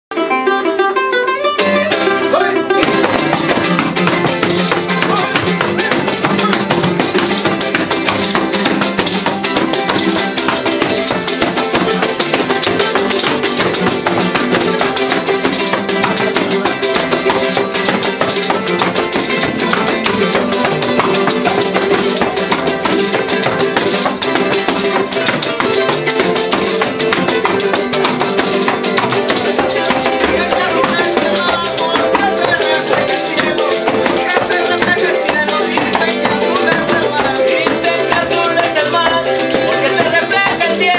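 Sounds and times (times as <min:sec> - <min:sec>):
guitars strummed fast: 0:00.1 - 0:40.9.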